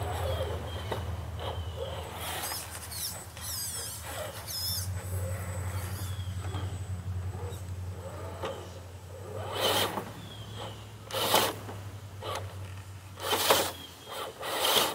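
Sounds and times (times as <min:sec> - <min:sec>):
steady low hum: 0:00.0 - 0:14.4
electric motor and gearbox whining: 0:00.0 - 0:14.9.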